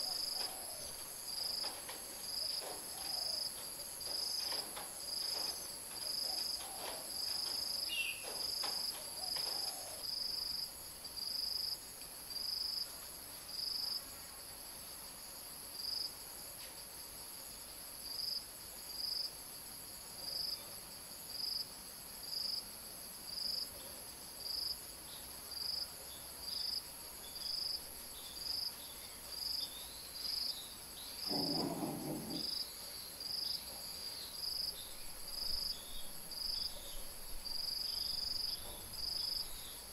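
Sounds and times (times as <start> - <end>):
insect chirping: 0.0 - 39.9
insects humming: 0.0 - 39.9.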